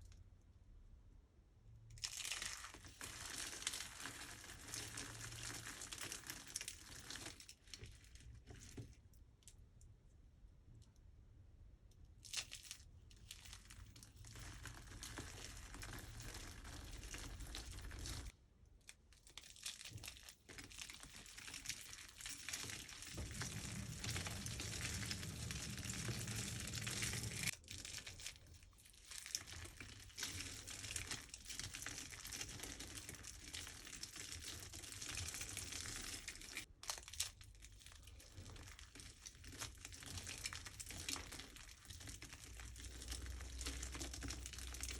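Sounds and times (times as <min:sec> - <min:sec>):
dry soap crunching and crackling: 0:01.9 - 0:08.8, 0:13.2 - 0:18.3, 0:19.0 - 0:44.9.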